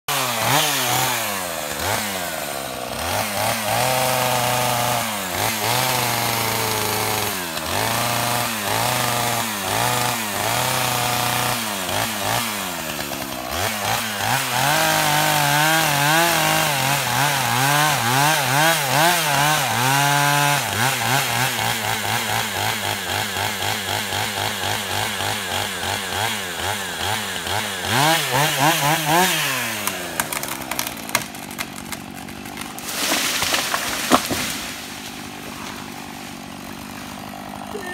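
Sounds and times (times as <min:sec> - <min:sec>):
chainsaw revving and idling: 0:00.0 - 0:37.9.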